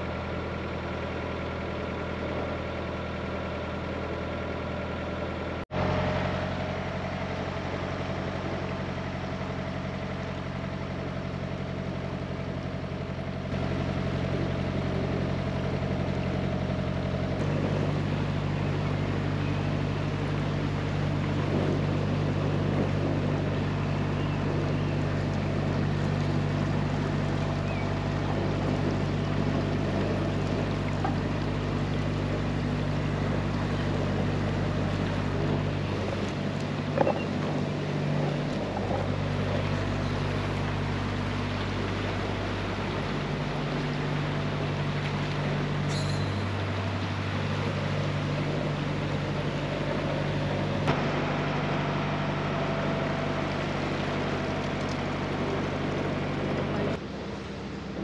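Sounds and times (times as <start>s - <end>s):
boat diesel engine running: 0.0s - 58.0s.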